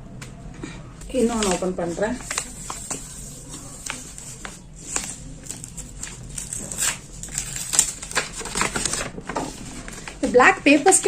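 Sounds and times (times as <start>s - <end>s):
wrapping paper crinkling and ripping: 1.1s - 10.9s.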